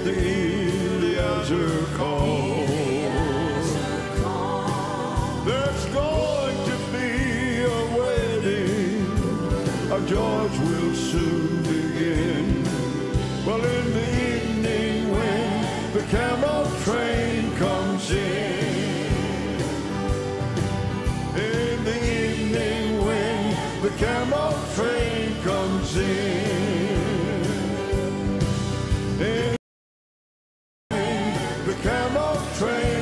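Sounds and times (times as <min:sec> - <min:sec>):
group of singers: 0:00.0 - 0:28.6, 0:30.9 - 0:33.0
drums: 0:00.0 - 0:29.6, 0:30.9 - 0:33.0
piano: 0:00.0 - 0:29.6, 0:30.9 - 0:33.0.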